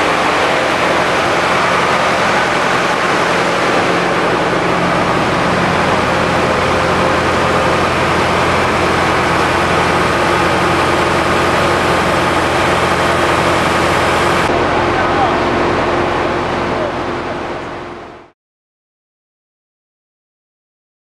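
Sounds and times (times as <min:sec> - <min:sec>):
engines driving water pumps: 0:00.0 - 0:18.3.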